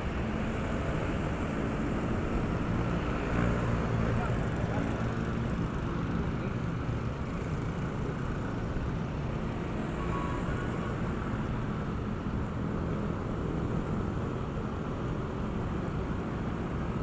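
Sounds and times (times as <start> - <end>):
motorcycle engine and road noise: 0.0 - 17.0.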